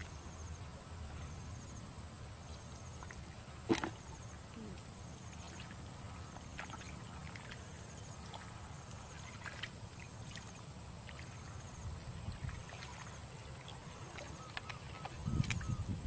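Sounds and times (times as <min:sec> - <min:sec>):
insects buzzing: 0:00.0 - 0:16.0
sloshing in wet mud: 0:02.9 - 0:15.8.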